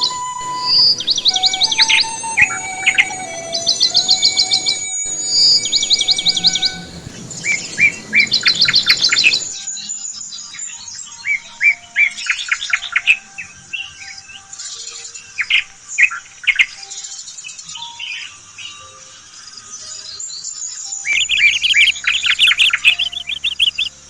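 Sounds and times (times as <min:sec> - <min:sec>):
background hiss: 0:00.0 - 0:24.0
small birds chirping: 0:00.0 - 0:24.0.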